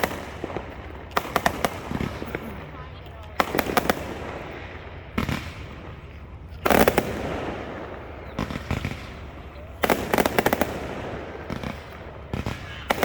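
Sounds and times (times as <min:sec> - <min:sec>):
low rolling rumble: 0:00.0 - 0:12.3
fireworks bangs: 0:00.0 - 0:13.0
fireworks crackling: 0:00.0 - 0:13.0.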